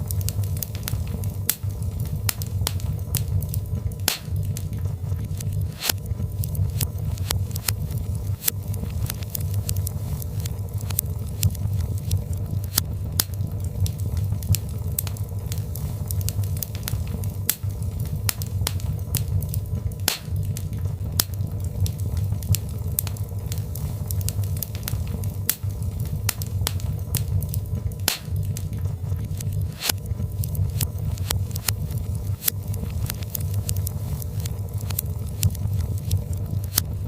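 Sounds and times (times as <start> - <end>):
fire low rumble: 0.0 - 37.0
logs crackling and popping: 0.0 - 37.0.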